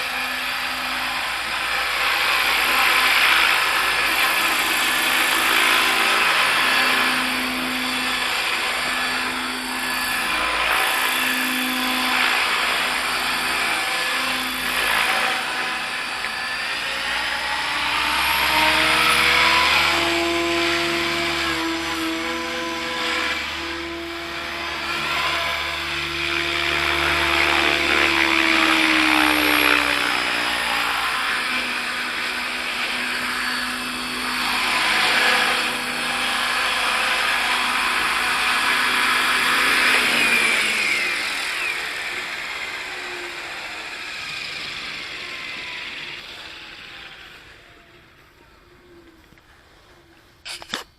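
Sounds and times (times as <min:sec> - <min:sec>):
helicopter rotor noise: 0:00.0 - 0:50.9
rc helicopter motor whine: 0:00.0 - 0:50.9.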